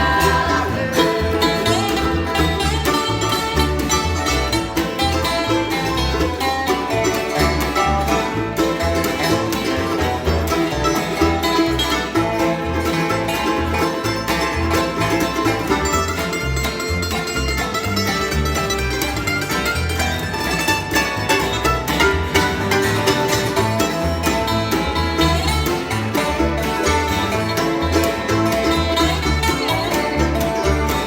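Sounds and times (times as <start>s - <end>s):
music with bass beat: 0.0s - 31.0s.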